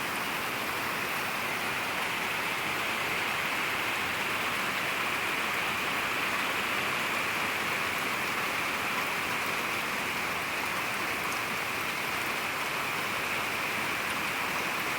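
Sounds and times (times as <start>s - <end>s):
heavy rain falling: 0.0s - 14.9s.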